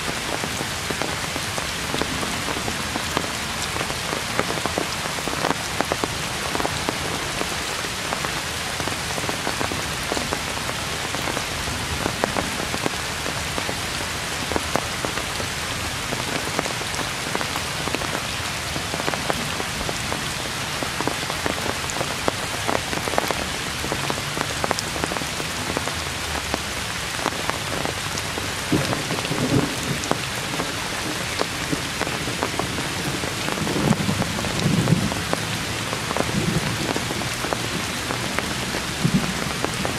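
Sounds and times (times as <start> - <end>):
heavy rain on grass and trees: 0.0 - 39.9.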